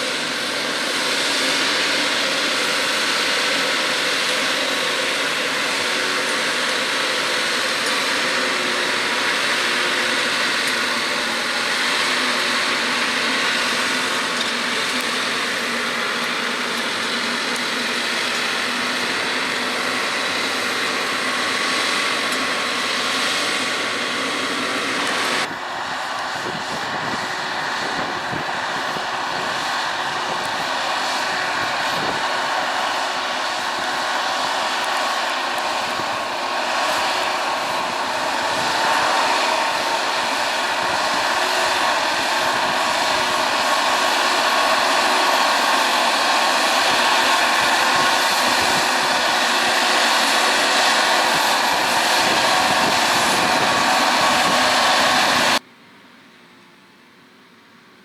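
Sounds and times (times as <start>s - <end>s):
tractor engine under load: 0.0s - 55.6s.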